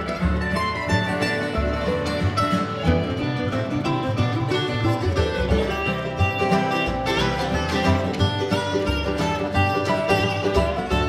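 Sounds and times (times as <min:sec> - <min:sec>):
acoustic guitar picking: 0:00.0 - 0:11.0
mandolin picking: 0:00.0 - 0:11.0
washtub bass line: 0:00.0 - 0:11.0.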